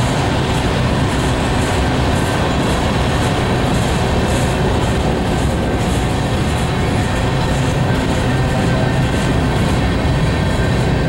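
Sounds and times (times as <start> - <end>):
freight train wheels rolling on rails: 0.0 - 11.0.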